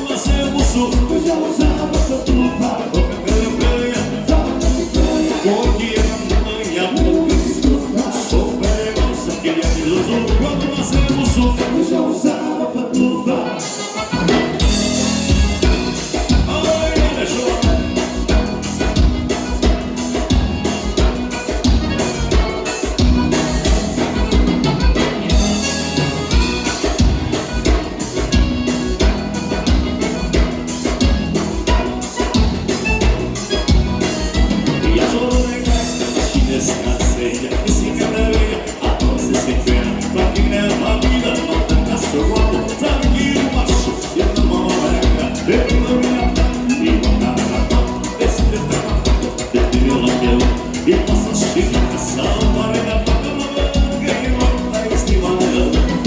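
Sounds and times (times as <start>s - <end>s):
steady bass beat: 0.0s - 11.7s, 14.1s - 56.0s
accordion-led dance band: 0.0s - 56.0s.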